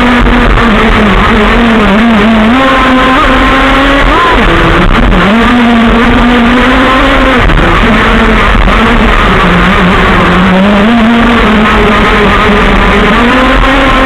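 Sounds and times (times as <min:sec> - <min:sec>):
rc car engine revving: 0:00.0 - 0:14.0.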